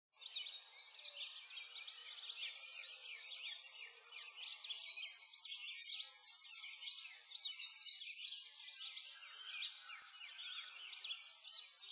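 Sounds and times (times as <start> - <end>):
small birds chirping: 0.2 - 11.9.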